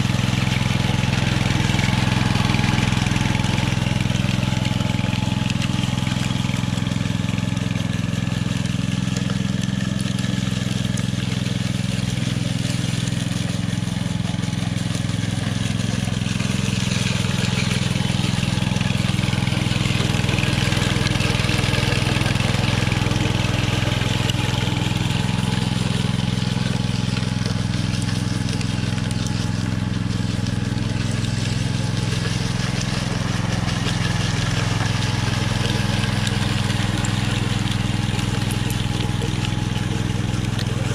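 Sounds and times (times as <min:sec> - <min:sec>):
power trowel engine running: 0:00.0 - 0:40.9.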